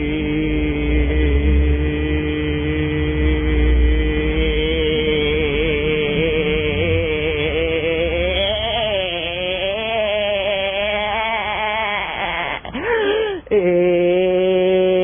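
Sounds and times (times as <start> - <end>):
sustained pitched drone: 0.0 - 15.0.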